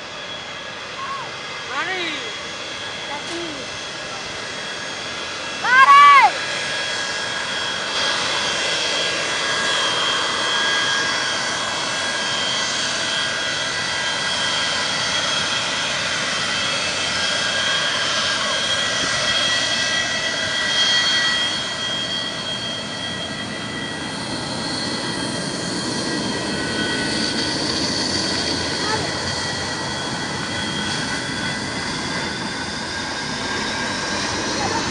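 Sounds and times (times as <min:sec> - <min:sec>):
jet engines whining: 0:00.0 - 0:34.9.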